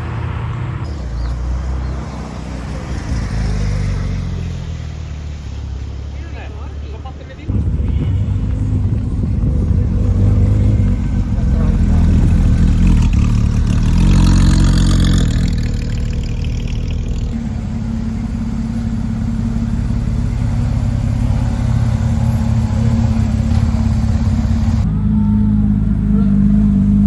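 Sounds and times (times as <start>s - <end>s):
car engine running loud: 0.8s - 27.0s.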